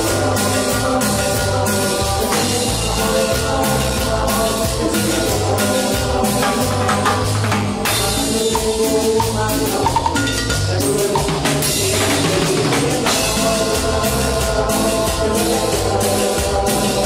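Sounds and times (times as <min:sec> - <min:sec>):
drum kit beat: 0:00.0 - 0:17.0
electric bass line: 0:00.0 - 0:17.0
keyboard: 0:00.0 - 0:17.0.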